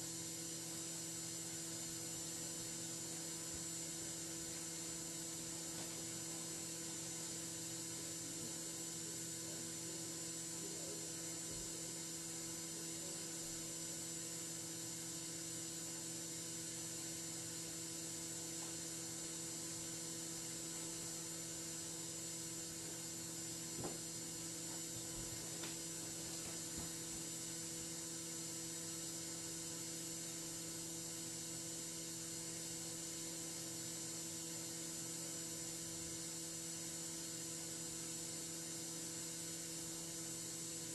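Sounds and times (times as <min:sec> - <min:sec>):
electrical hum with high whine: 0:00.0 - 0:40.9.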